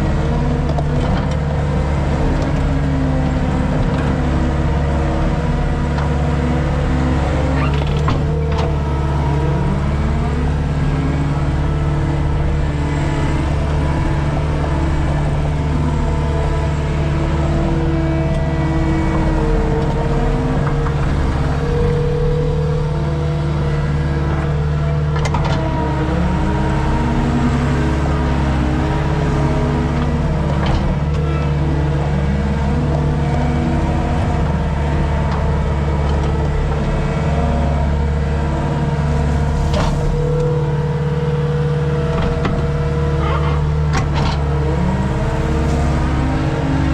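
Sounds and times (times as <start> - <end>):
skid steer engine under load: 0.0 - 46.9.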